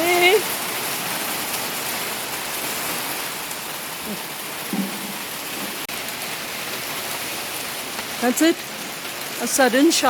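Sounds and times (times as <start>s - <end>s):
rain shower hissing: 0.0s - 10.0s.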